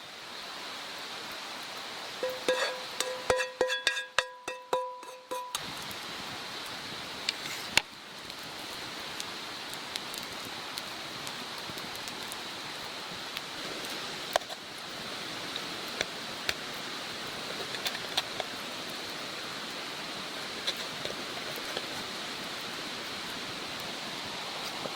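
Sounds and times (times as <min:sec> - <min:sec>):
wood fire crackling: 0:00.7 - 0:04.5, 0:05.4 - 0:24.9.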